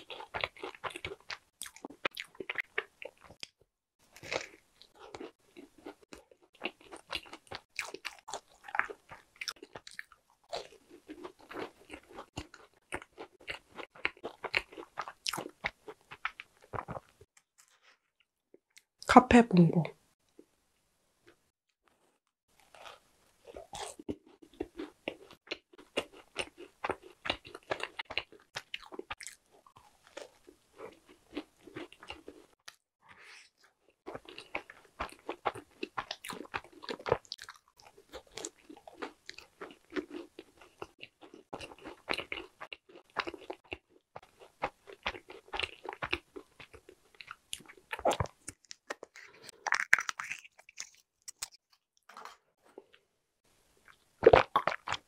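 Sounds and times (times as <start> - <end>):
biting and chewing: 0.0 - 17.8, 22.5 - 32.8, 33.6 - 53.0, 53.8 - 55.0.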